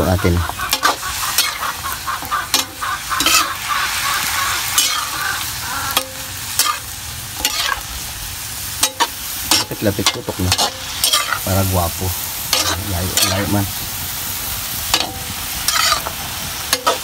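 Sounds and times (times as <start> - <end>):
food sizzling in a wok: 0.0 - 17.0
metal ladle scraping a wok: 0.5 - 7.9, 8.7 - 11.5, 12.3 - 13.6, 14.7 - 17.0.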